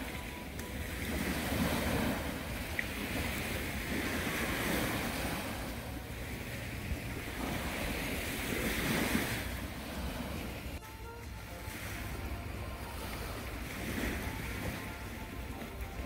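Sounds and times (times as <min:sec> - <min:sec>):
small waves washing onto beach: 0:00.0 - 0:16.0
wind rumbling on microphone: 0:00.0 - 0:16.0.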